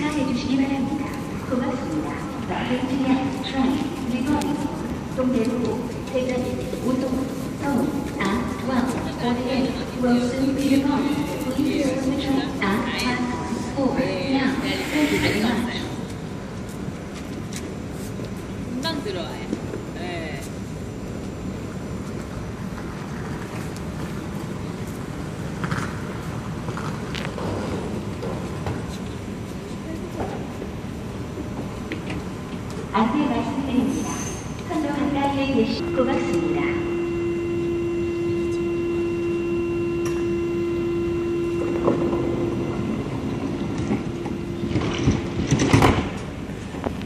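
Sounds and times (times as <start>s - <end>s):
train rumbling: 0.0s - 47.0s.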